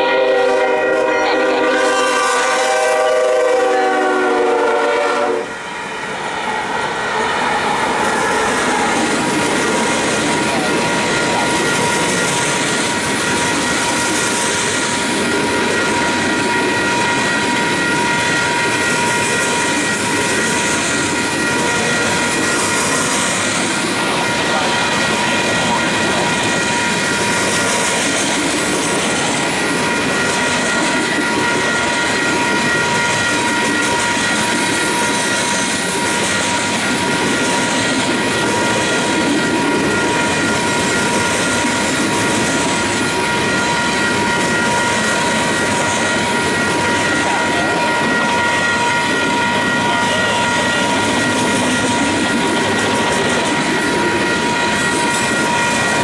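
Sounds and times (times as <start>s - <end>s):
freight train rolling past: 0.0s - 56.0s
high ringing tones: 8.1s - 56.0s.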